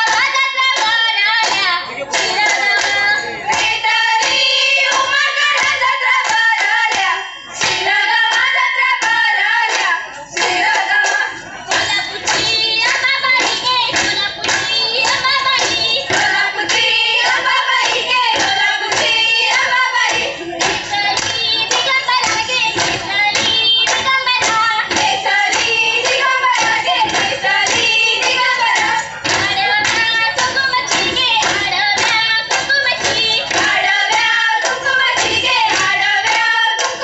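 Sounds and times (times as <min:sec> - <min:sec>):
rhythmic hand clapping: 0:00.0 - 0:37.0
women singing folk song: 0:00.0 - 0:37.0.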